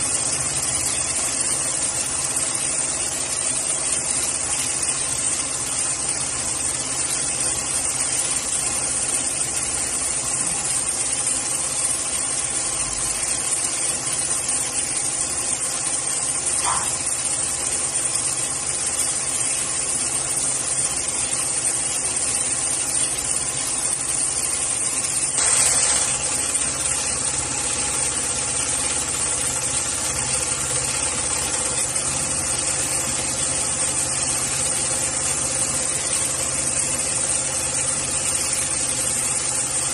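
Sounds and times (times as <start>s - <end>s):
industrial sewing machine running: 0.0s - 39.9s.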